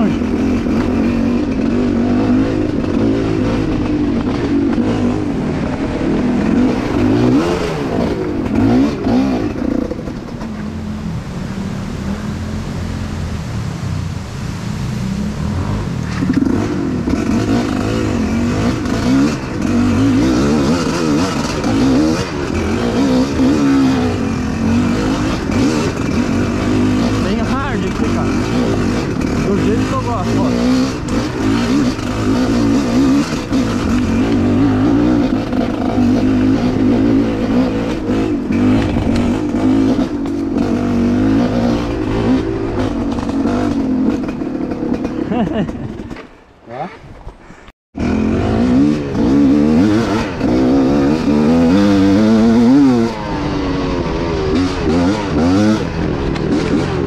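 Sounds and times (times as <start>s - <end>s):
motorcycle engine revving: 0.0s - 47.1s, 48.0s - 57.0s.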